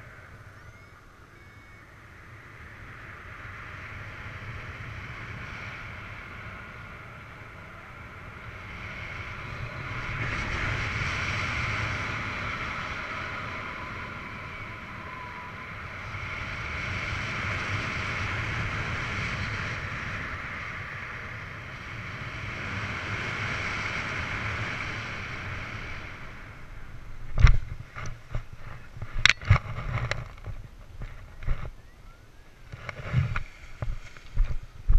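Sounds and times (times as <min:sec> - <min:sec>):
wind rushing over microphone: 0:00.0 - 0:34.9.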